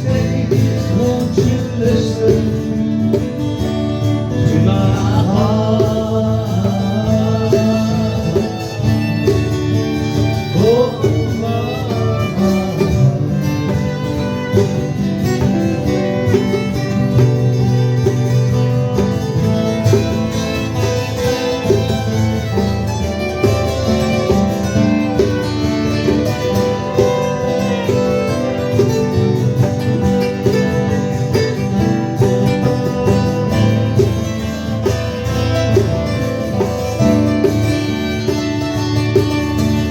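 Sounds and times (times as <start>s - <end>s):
country band with guitar: 0.0s - 39.9s.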